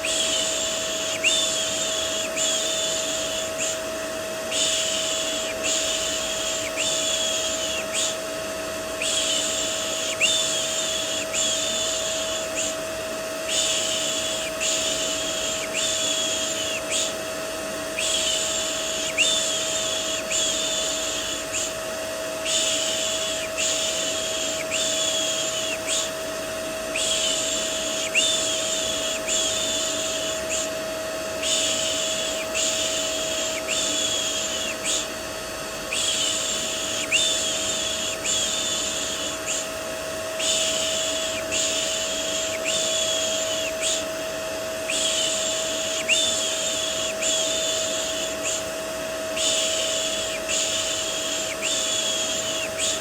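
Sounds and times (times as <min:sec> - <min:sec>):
vacuum cleaner drone: 0:00.0 - 0:53.0.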